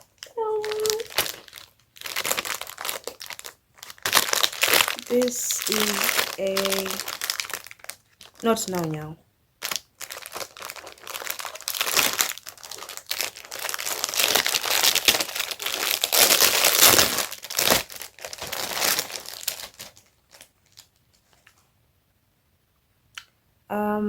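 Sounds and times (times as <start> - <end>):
packaging crinkling and rustling: 0.0 - 9.0, 9.6 - 21.7.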